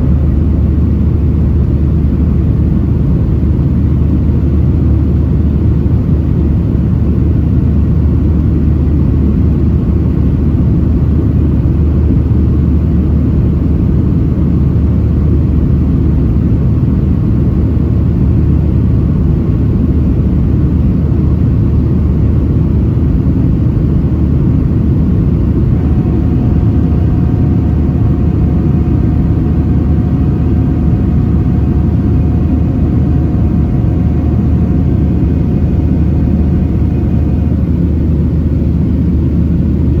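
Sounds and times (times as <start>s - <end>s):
faint steady engine tone: 0.0s - 40.0s
jet engine rumble in cabin: 0.0s - 40.0s.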